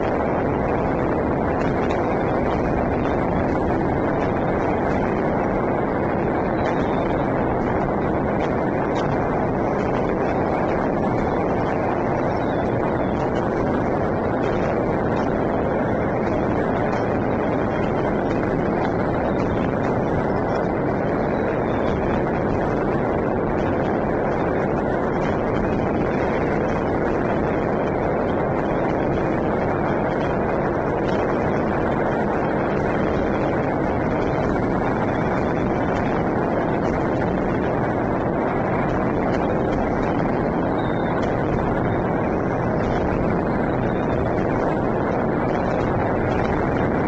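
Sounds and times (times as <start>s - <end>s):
fireworks and firecrackers: 0.0s - 47.0s.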